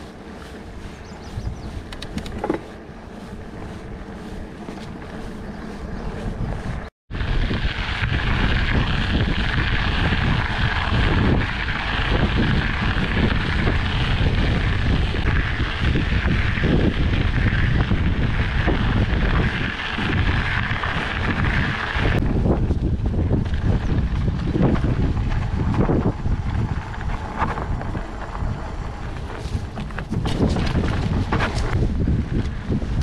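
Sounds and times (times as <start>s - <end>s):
bike tyres rumbling on dirt: 0.0s - 33.0s
wind buffeting microphone: 0.0s - 33.0s.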